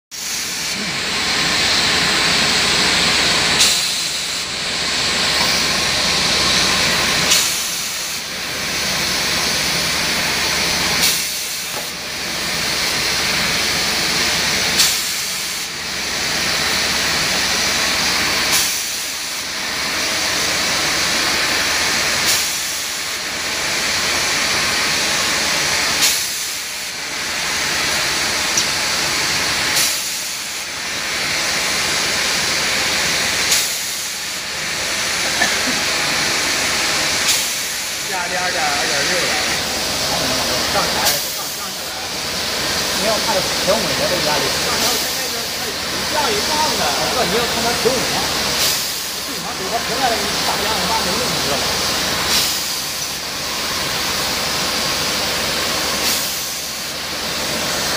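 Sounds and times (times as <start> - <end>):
bottle filling machine hissing: 0.2 - 57.9.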